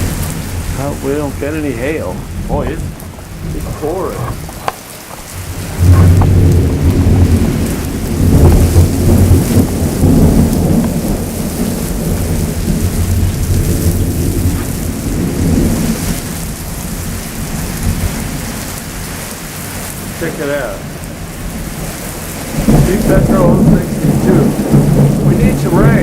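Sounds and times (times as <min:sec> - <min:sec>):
heavy rain downpour: 0:00.0 - 0:26.0
rumble of thunder: 0:00.0 - 0:26.0.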